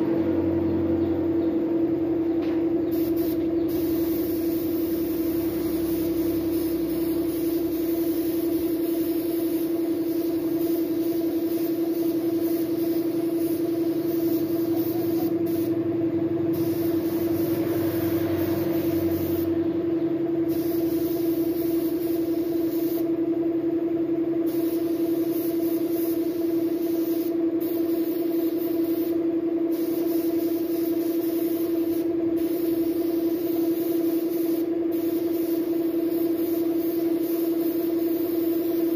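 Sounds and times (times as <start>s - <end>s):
loud mechanical hum: 0.0s - 38.9s
spray gun hissing: 2.9s - 15.8s, 16.5s - 19.5s, 20.5s - 23.1s, 24.5s - 38.9s.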